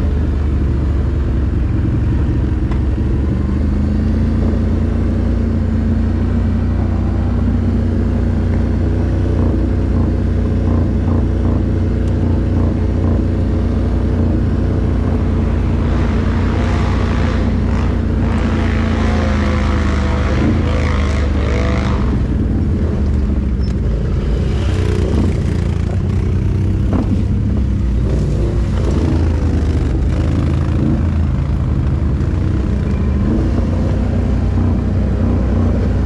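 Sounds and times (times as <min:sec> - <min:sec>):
engine droning steadily: 0:00.0 - 0:36.0.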